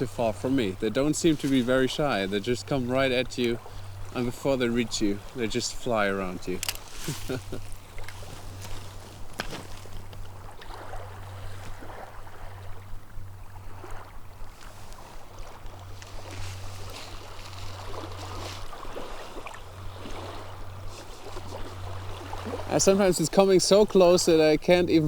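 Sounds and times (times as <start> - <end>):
small waves lapping: 0.0 - 25.0
steady low rumble: 0.0 - 25.0.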